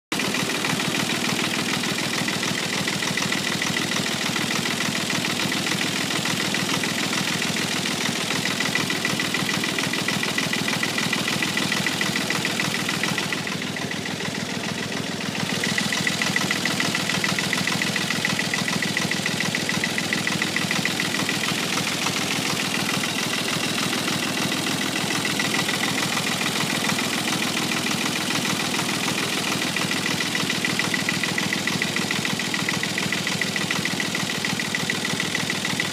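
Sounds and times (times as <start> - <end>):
tractor engine running: 0.1 - 35.9.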